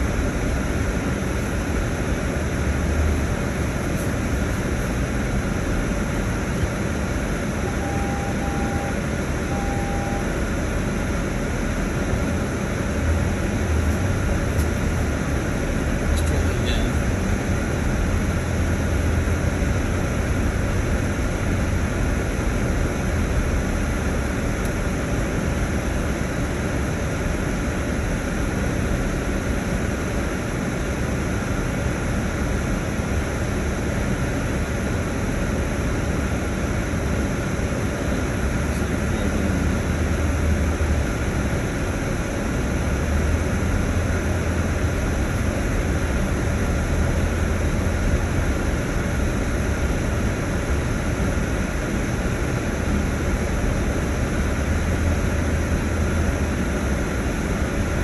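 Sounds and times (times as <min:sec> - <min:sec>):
road noise from inside cab: 0:00.0 - 0:58.0
vehicle engine rumble: 0:00.0 - 0:58.0.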